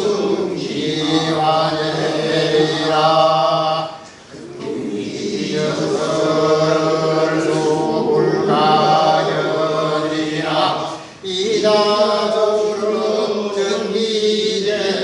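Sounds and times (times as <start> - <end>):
man chanting text: 0.0 - 15.0.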